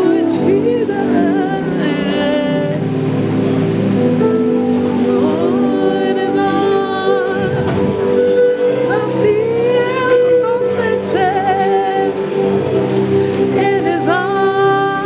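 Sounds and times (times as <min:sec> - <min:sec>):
person singing: 0:00.0 - 0:03.8, 0:04.9 - 0:15.0
keyboard chords: 0:00.0 - 0:15.0.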